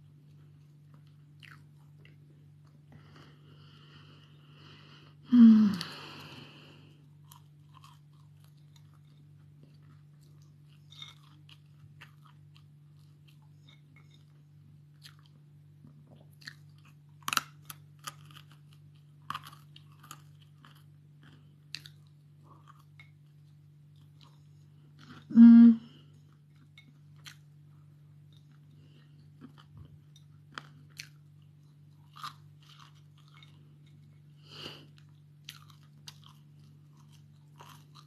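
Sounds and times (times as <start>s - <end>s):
person crunching and chewing: 0.0s - 4.4s, 5.5s - 25.3s, 26.0s - 38.0s
low electrical hum: 0.0s - 38.0s.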